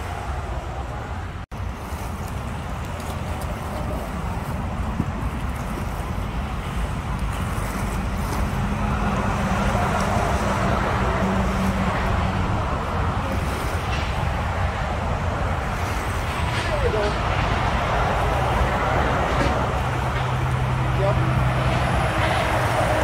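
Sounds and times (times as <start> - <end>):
distant engine rumble: 0.0 - 23.0.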